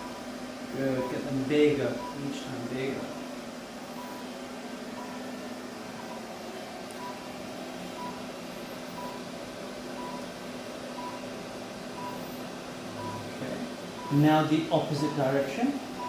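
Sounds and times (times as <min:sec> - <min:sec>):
air-handling hum: 0:00.0 - 0:16.0.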